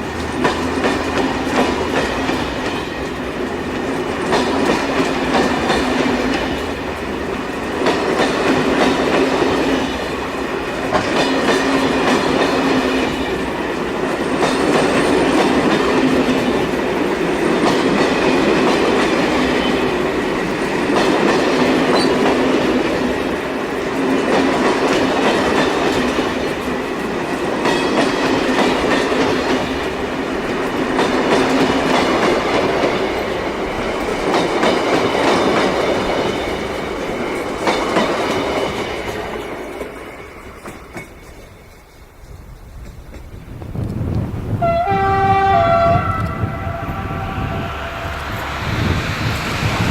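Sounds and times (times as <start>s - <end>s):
train wheels clicking over rail joints: 0.0s - 44.6s.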